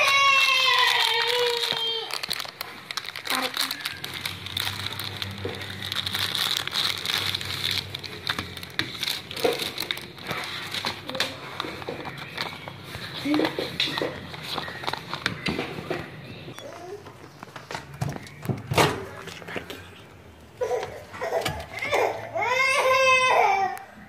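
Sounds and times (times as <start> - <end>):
packaging crinkling and rustling: 0.0 - 22.2.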